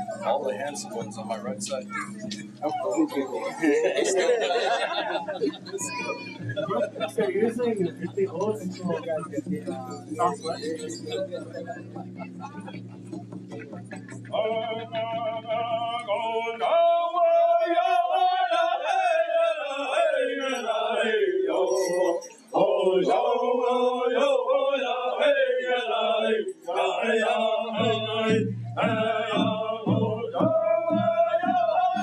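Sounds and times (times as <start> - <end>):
men chanting in unison: 0.0 - 12.8, 14.2 - 32.0.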